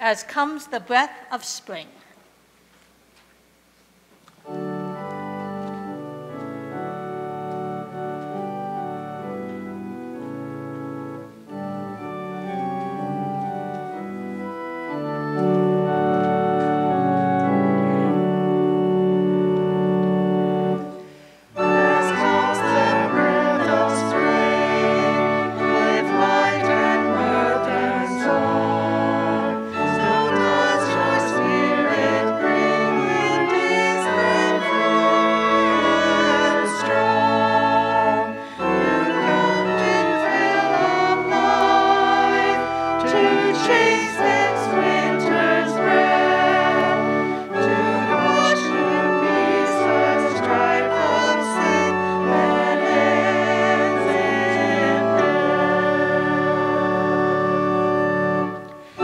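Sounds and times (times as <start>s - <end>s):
church organ: 3.5s - 59.0s
voices singing a hymn: 11.0s - 59.0s.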